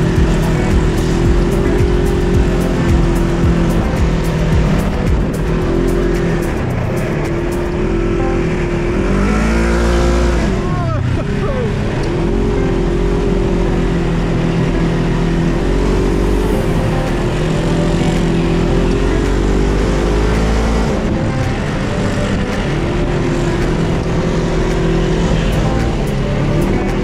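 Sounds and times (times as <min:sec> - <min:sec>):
dune buggy engine running: 0:00.0 - 0:27.0.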